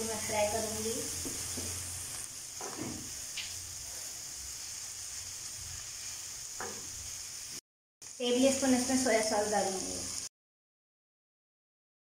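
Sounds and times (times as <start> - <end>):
vegetables sizzling in oil: 0.0 - 10.3.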